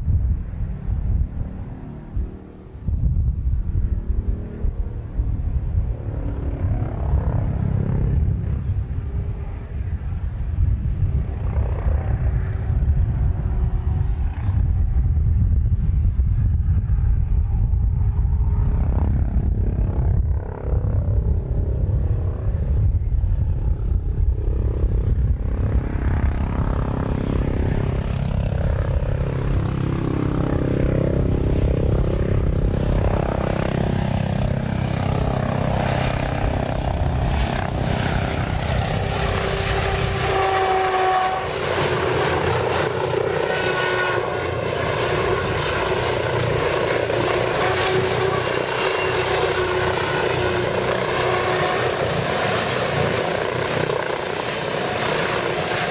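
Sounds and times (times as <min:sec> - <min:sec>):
helicopter rotor beat: 0:00.0 - 0:55.9
turbine whine: 0:00.0 - 0:55.9.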